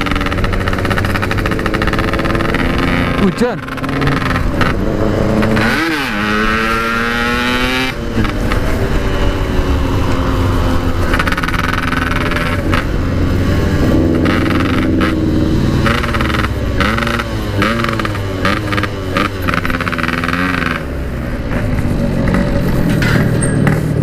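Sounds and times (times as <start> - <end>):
two-stroke motorcycle engine accelerating: 0.0 - 24.0.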